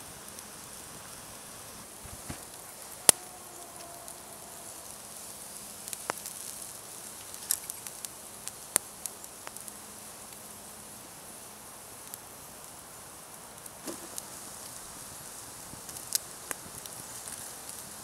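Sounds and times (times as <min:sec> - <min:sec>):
coals popping and crackling: 0:00.0 - 0:18.0
meat sizzling on a grill: 0:00.0 - 0:18.0.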